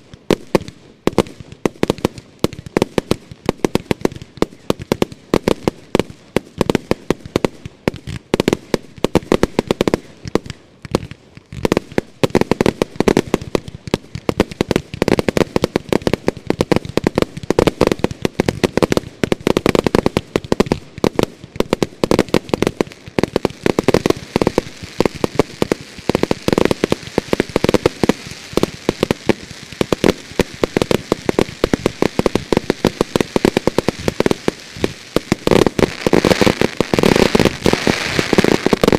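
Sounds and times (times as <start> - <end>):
fireworks bangs: 0.0 - 38.9
crackling hiss: 7.6 - 38.9.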